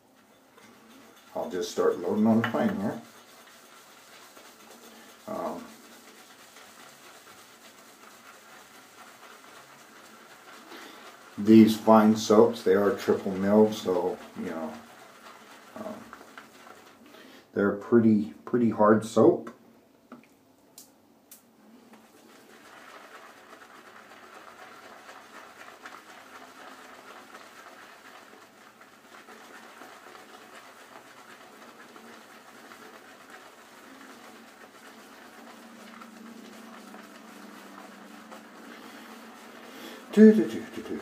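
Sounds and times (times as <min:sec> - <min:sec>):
shaving brush swishing on soap: 0:00.0 - 0:18.4, 0:21.7 - 0:41.0.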